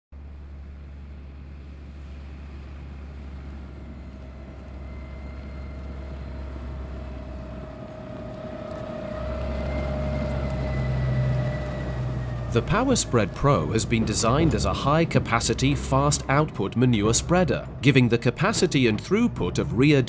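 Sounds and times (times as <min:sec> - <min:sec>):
tractor engine drone: 0:00.1 - 0:20.0
manure spreader whine: 0:00.2 - 0:20.0.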